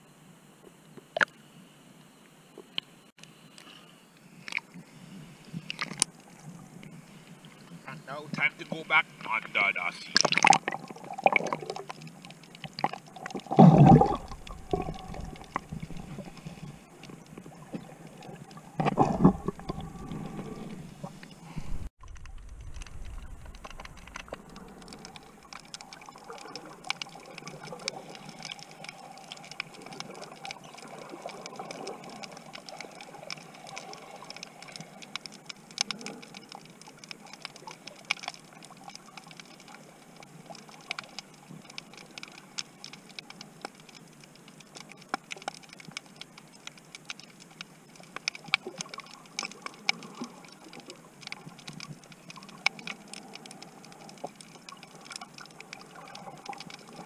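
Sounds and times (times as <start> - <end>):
faint water wash: 3.3 - 57.0
underwater clicks crackling: 5.4 - 21.4, 22.0 - 57.0.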